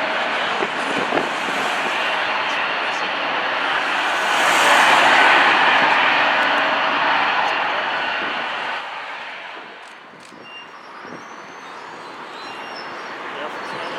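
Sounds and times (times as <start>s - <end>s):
jet engine rushing: 0.0s - 11.2s.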